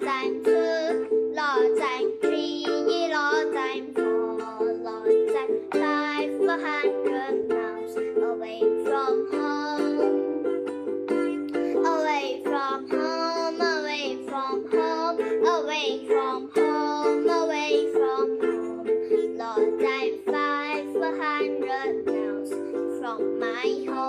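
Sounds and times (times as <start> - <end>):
girl singing: 0.0 - 24.0
ukulele strumming chords: 0.0 - 24.0.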